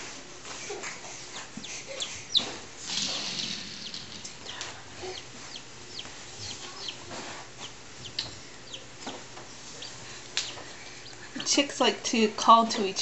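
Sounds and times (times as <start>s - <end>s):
chicks peeping: 1.1s - 11.6s.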